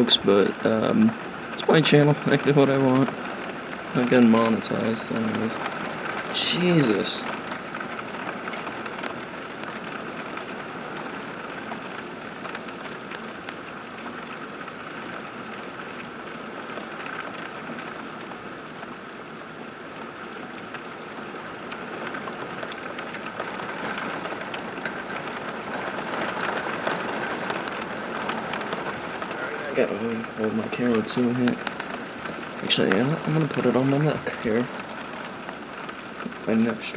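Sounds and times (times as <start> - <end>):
faint raindrop ticks: 0.0 - 36.9
heavy rain pouring: 0.0 - 36.9.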